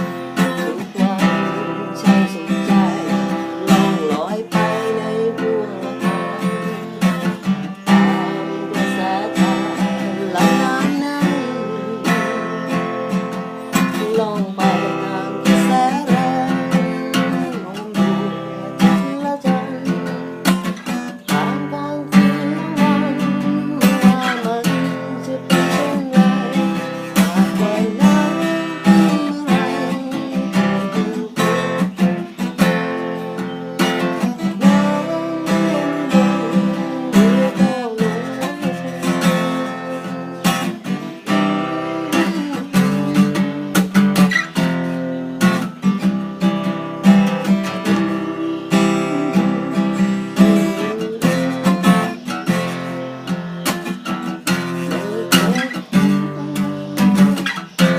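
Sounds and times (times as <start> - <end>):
strummed acoustic guitar: 0.0 - 57.9.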